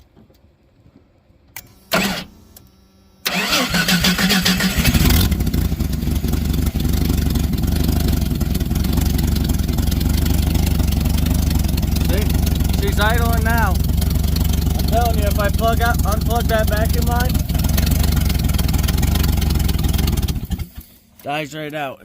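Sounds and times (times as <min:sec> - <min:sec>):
engine cranking: 0:01.9 - 0:02.3, 0:03.2 - 0:20.9
truck engine idling: 0:03.3 - 0:21.0.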